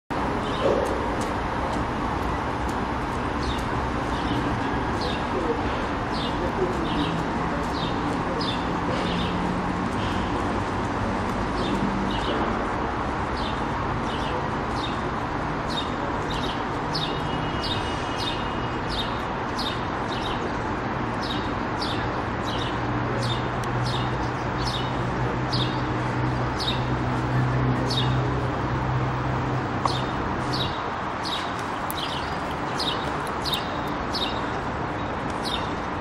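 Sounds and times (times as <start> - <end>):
street noise: 0.1 - 36.0.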